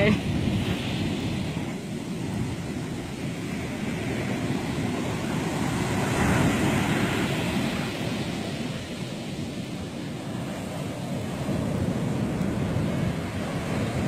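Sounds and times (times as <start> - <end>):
surf breaking on beach: 0.0 - 14.0
wind on microphone: 0.0 - 14.0.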